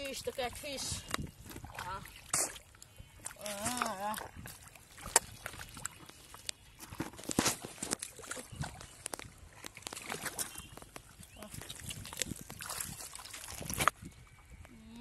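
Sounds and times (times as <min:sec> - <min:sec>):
hands splashing in muddy water: 0:01.0 - 0:13.9.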